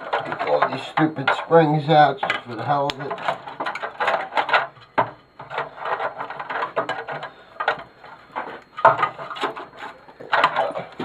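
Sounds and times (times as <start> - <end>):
metal and plastic parts clattering: 0.0 - 11.0.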